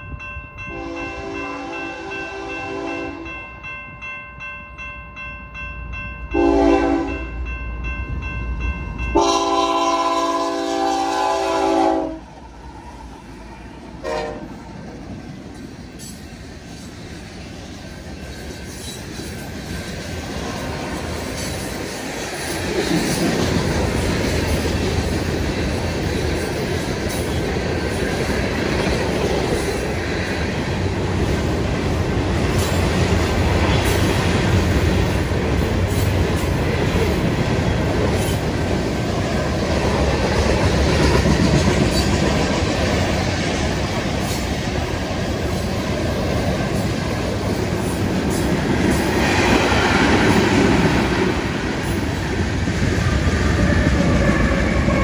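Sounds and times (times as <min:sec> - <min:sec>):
steel wheels rumbling on rail: 0:05.9 - 0:55.0.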